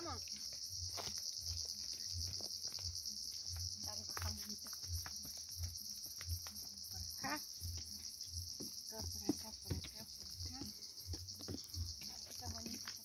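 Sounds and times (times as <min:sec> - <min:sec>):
footsteps on dirt path: 0:00.0 - 0:13.0
high-pitched insect chorus: 0:00.0 - 0:13.0.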